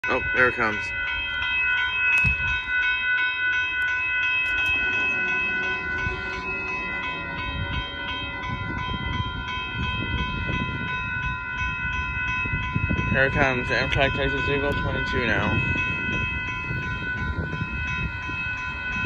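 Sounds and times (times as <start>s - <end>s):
railroad crossing bells ringing: 0.0s - 19.0s
train rumble: 0.0s - 19.0s.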